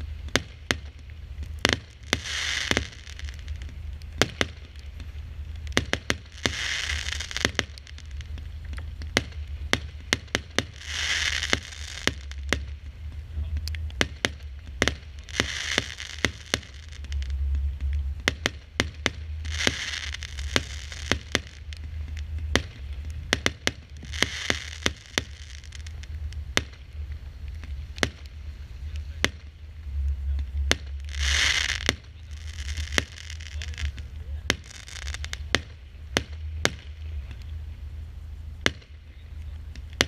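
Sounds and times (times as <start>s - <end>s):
firework bangs: 0.0s - 37.7s, 38.5s - 40.0s
crackling firework stars: 0.0s - 40.0s.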